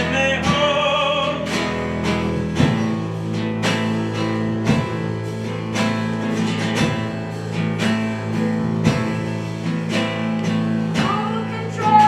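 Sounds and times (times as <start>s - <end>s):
held instrumental notes: 0.0s - 12.0s
strummed guitar chords: 0.0s - 12.0s.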